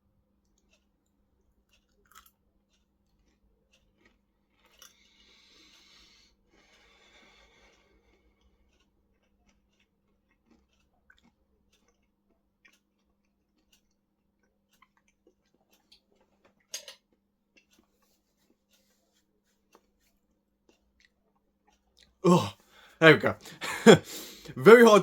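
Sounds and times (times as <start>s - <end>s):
chewing crispy food: 0.4s - 22.2s.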